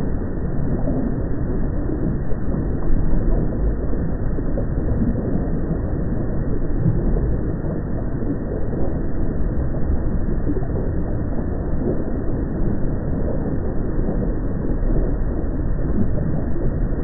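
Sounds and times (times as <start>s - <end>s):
low volcanic rumble: 0.0s - 17.0s.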